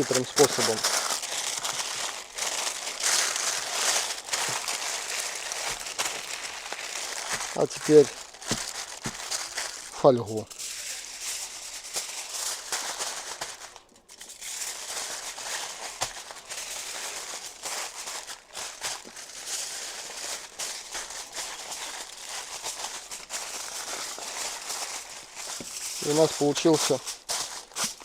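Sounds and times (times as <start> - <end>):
aluminium foil crinkling: 0.0 - 28.0.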